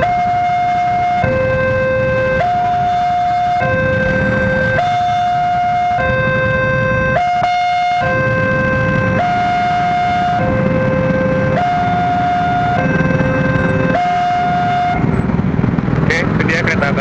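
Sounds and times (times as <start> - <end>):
freight train rumbling: 0.0 - 5.8, 8.1 - 17.0
level crossing two-tone alarm: 0.0 - 15.1.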